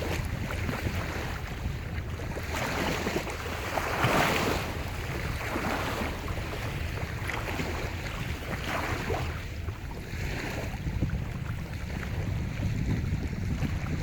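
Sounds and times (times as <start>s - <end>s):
waves breaking ashore: 0.0s - 14.0s
wind rumble on microphone: 0.0s - 14.0s.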